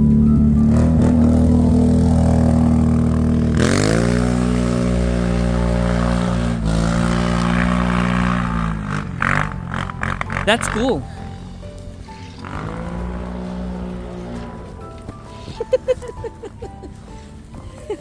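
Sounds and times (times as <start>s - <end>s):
motorbike engine revving: 0.0s - 17.5s.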